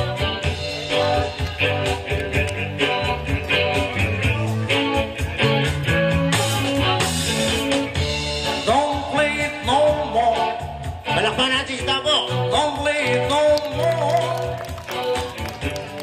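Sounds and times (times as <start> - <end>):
person singing: 0.0 - 7.8, 8.5 - 16.0
live band music: 0.0 - 16.0.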